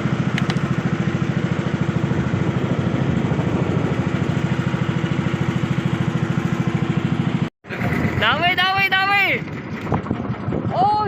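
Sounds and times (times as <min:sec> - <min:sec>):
boat engine putter: 0:00.0 - 0:11.0.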